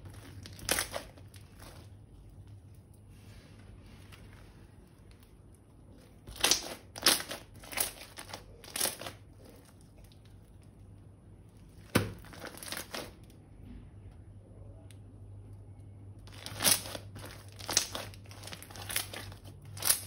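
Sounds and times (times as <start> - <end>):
thin plastic crinkling: 0.0 - 13.4, 16.2 - 20.0.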